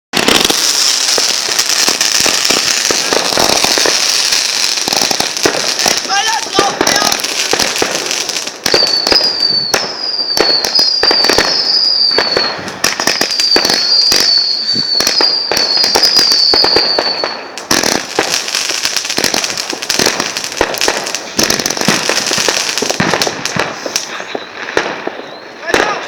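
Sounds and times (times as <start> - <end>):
fireworks bangs: 0.1 - 26.0
fireworks crackling and popping: 0.1 - 26.0
fireworks falling whistles: 0.1 - 26.0.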